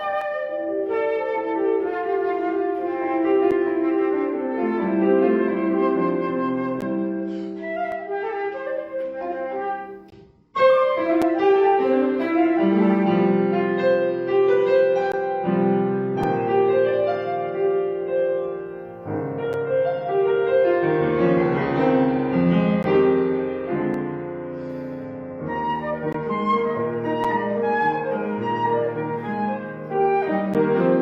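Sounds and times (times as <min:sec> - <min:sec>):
classical piano playing: 0:00.0 - 0:31.0.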